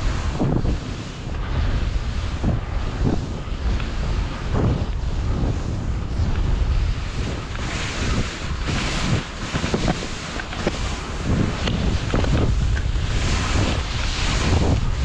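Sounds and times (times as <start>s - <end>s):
skis hissing over snow: 0.0s - 15.0s
wind rumbling on microphone: 0.0s - 15.0s.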